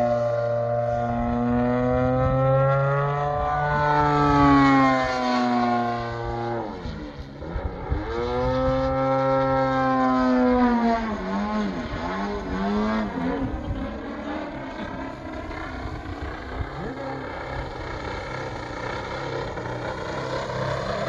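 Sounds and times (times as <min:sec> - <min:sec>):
model airplane engine buzzing: 0:00.0 - 0:21.0.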